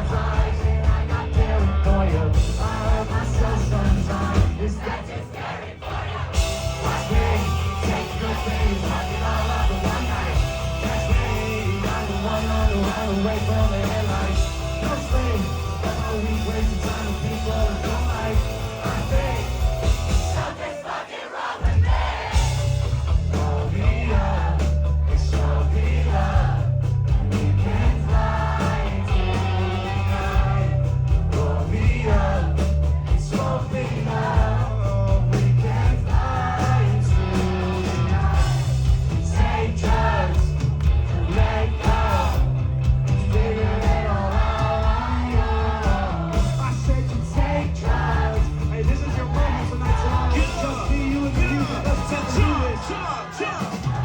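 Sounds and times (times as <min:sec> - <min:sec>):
live rock band playing: 0:00.0 - 0:04.8, 0:06.4 - 0:20.6, 0:21.9 - 0:54.0
sung vocals: 0:00.0 - 0:54.0.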